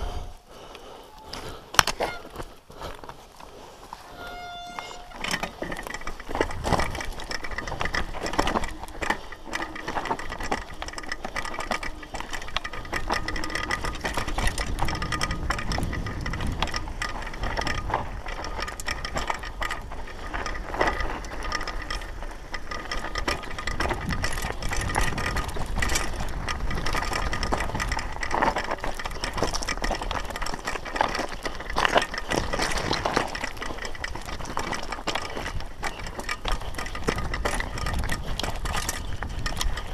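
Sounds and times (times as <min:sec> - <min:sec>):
bike rattling over stones: 0:00.0 - 0:39.9.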